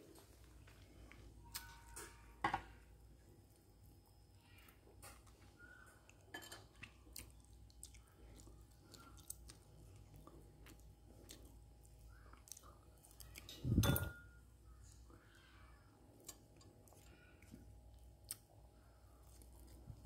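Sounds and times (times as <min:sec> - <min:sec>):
soft chewing: 0:00.0 - 0:02.3, 0:03.2 - 0:20.0.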